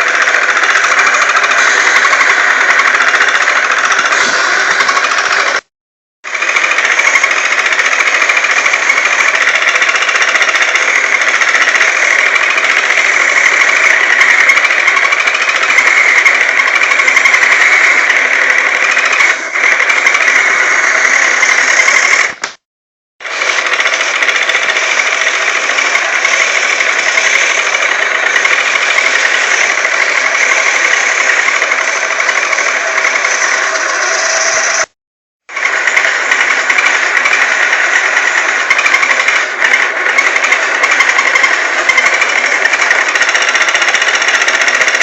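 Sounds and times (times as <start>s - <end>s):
toy disc sander buzzing: 0.0s - 22.6s, 23.2s - 45.0s.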